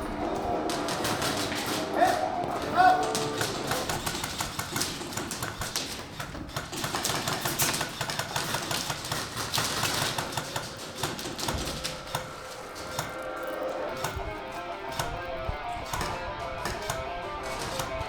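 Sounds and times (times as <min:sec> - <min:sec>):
airsoft guns firing: 0:00.0 - 0:18.0.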